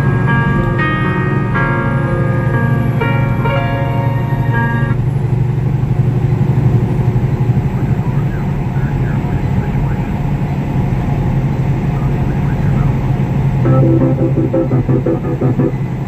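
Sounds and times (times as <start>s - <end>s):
truck engine and road drone: 0.0s - 16.0s.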